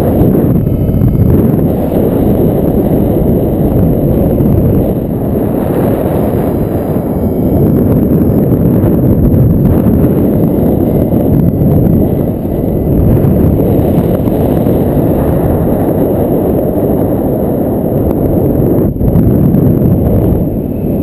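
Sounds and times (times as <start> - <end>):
wind buffeting a microphone: 0.0 - 21.0.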